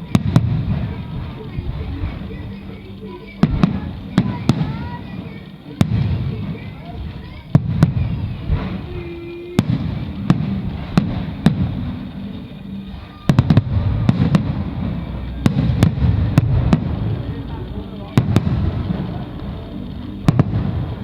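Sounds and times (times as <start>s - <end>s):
fireworks bursting bangs: 0.0s - 21.0s
low rumble: 0.0s - 21.0s.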